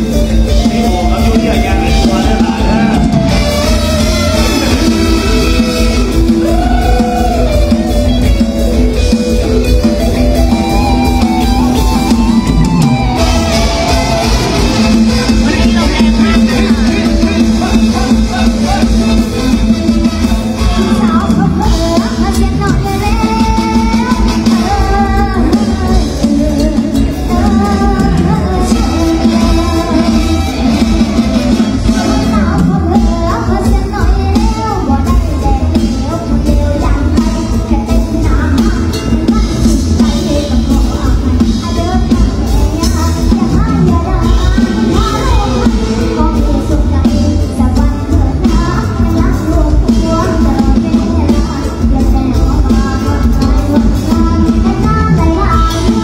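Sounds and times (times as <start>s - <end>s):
bass-heavy beat: 0.0s - 56.0s
person singing: 0.0s - 56.0s.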